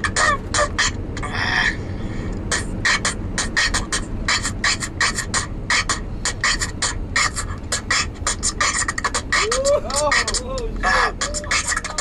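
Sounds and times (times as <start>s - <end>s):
hip-hop beat: 0.0s - 1.3s, 2.4s - 12.0s
steady low rumble: 0.0s - 12.0s.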